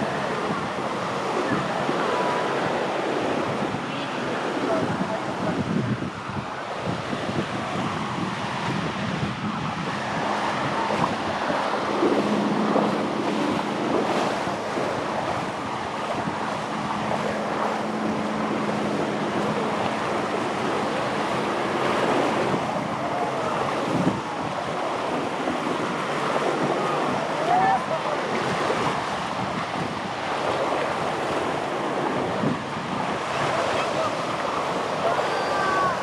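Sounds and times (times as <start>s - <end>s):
surf washing onto beach: 0.0s - 36.0s
wind buffeting microphone: 0.0s - 36.0s.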